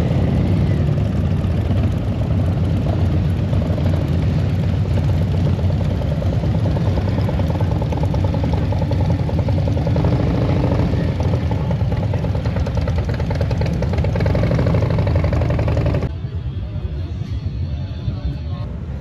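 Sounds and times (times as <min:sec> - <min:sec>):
motorcycle engines running: 0:00.0 - 0:16.2.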